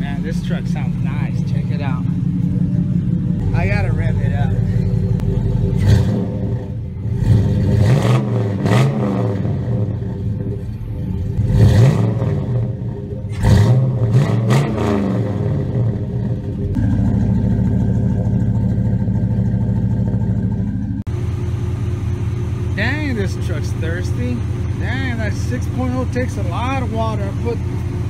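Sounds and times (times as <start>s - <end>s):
car engine idling: 0.0s - 28.0s
car engine revving: 0.0s - 28.0s.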